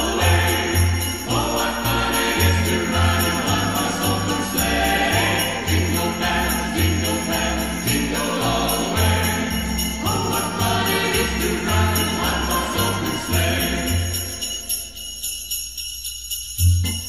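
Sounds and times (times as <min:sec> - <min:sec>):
tuba bass line: 0:00.0 - 0:14.1.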